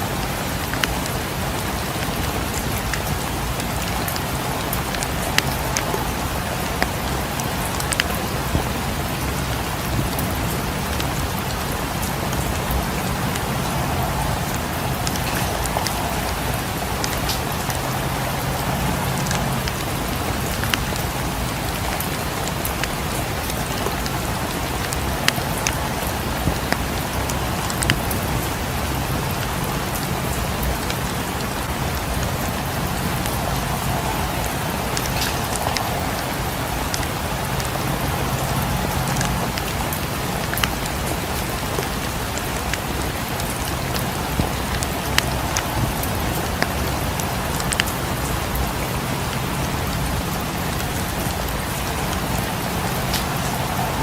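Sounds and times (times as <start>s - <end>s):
rain falling: 0.0s - 54.0s
sharp ticks and clicks: 2.0s - 28.6s, 32.2s - 48.9s.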